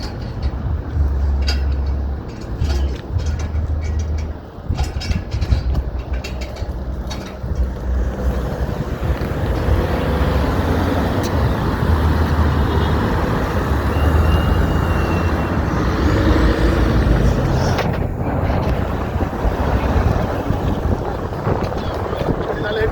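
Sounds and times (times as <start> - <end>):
road traffic rumble: 0.0 - 22.9.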